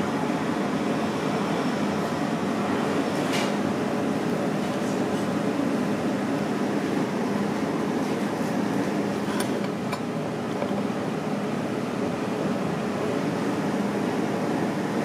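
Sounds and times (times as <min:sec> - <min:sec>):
ventilation fan hum: 0:00.0 - 0:15.0.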